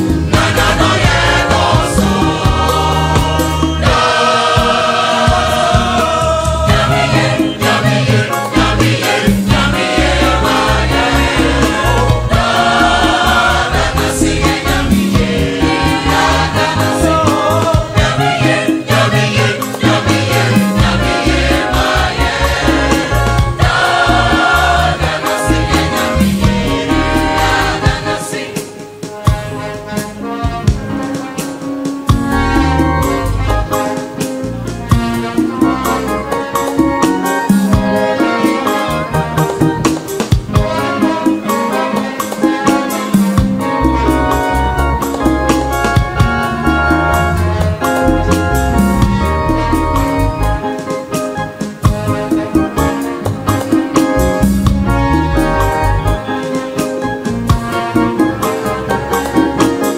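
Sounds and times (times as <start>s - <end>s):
choir singing in harmony: 0.0s - 59.9s
steady percussion: 0.0s - 59.9s.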